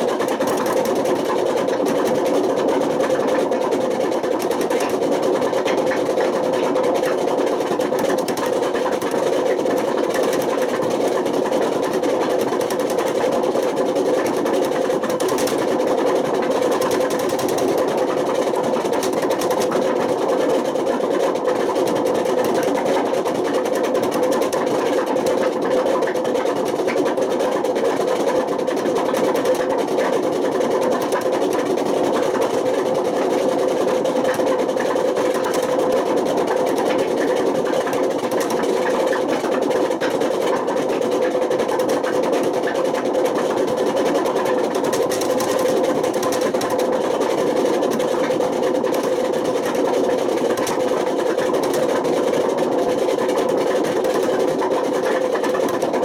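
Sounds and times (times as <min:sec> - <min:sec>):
washing machine drum turning: 0:00.0 - 0:27.1, 0:28.2 - 0:56.0.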